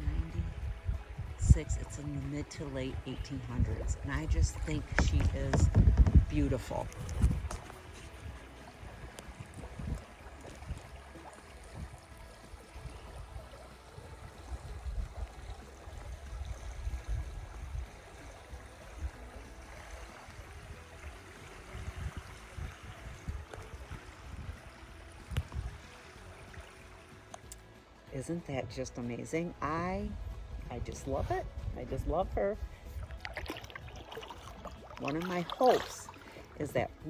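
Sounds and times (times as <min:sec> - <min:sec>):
wind gusts on microphone: 0:00.0 - 0:27.1, 0:28.2 - 0:34.6
river water gurgling: 0:00.0 - 0:37.0.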